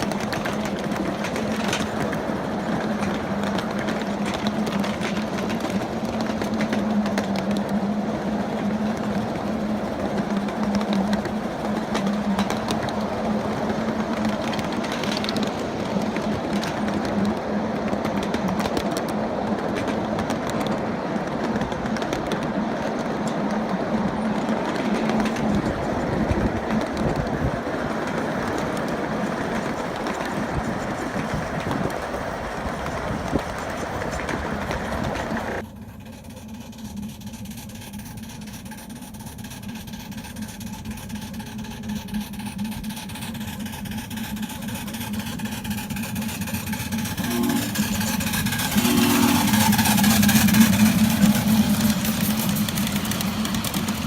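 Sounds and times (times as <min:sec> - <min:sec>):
miniature train humming: 0:00.0 - 0:54.0
wheels clicking over rails: 0:00.0 - 0:54.0.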